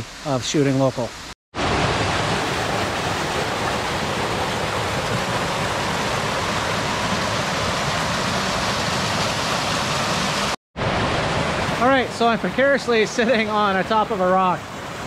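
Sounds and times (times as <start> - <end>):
waterfall rushing over rocks: 1.6 - 15.0.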